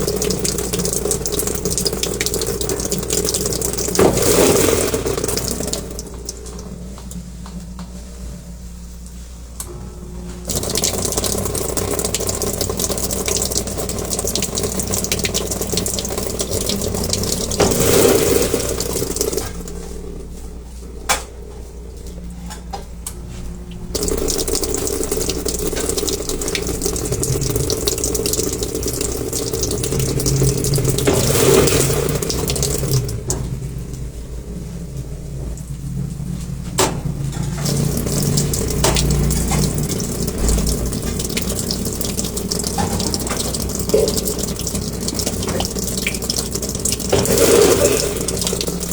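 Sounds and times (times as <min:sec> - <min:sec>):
washing machine hum: 0:00.0 - 0:48.9
washing machine water rushing: 0:00.0 - 0:48.9.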